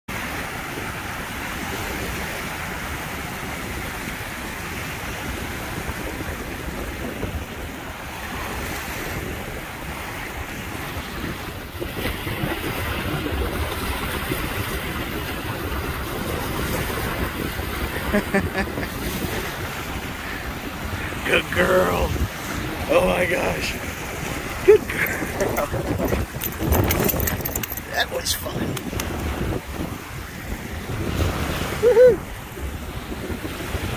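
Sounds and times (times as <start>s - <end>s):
small waves lapping on shore: 0.1s - 33.9s
wind buffeting microphone: 0.2s - 33.9s.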